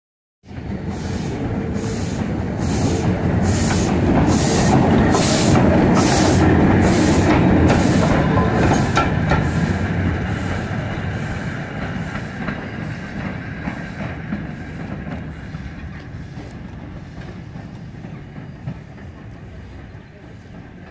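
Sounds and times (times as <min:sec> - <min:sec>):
steam locomotive chuffing: 0:00.5 - 0:20.9.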